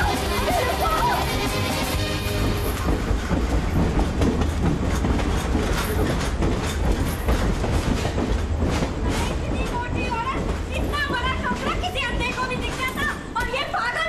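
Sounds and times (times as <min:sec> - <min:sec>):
low train rumble: 0:00.0 - 0:14.0
train wheels clattering over joints: 0:00.0 - 0:14.0.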